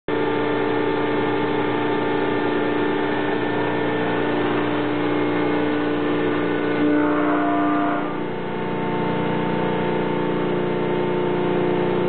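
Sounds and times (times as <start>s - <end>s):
hydraulic pump humming: 0.1s - 12.0s.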